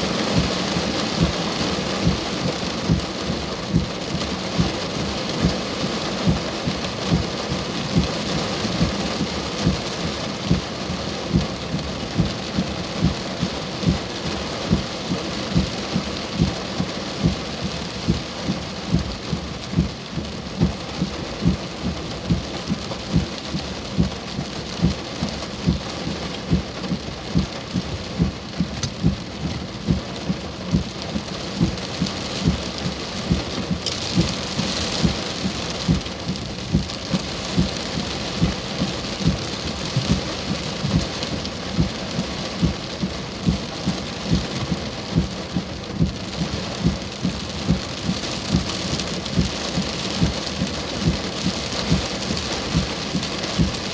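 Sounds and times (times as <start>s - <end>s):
heavy rain pouring: 0.0s - 53.9s
low thump repeating: 0.2s - 53.8s.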